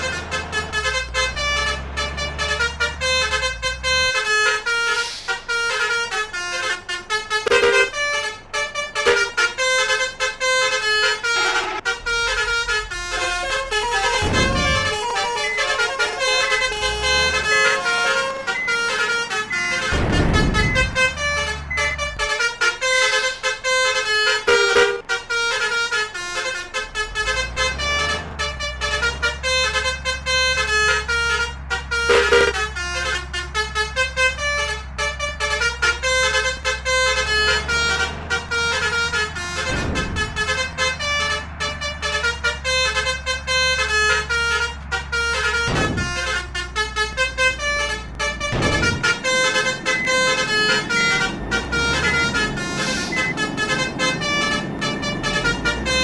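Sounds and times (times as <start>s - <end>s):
bus engines rumbling: 0.0s - 56.0s
multi-tone bus air horns playing tunes: 0.0s - 56.0s.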